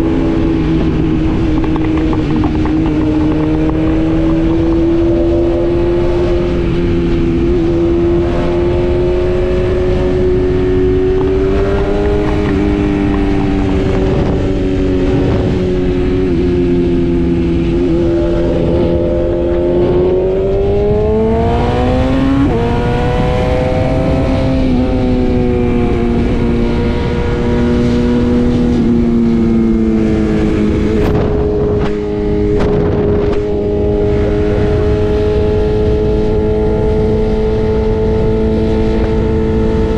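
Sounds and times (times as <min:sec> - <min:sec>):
motorcycle engine running: 0:00.0 - 0:07.8, 0:09.5 - 0:39.9
wind rushing: 0:00.0 - 0:39.9.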